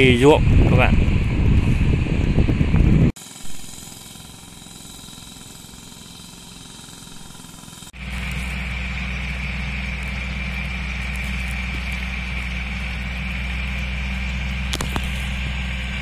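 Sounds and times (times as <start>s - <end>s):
tractor engine drone: 0.0s - 16.0s.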